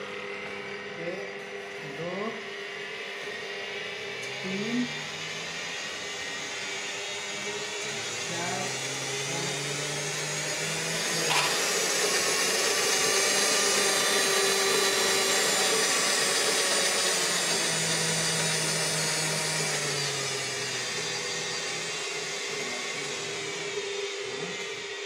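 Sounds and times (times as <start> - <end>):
stand mixer motor whine: 0.0 - 25.0.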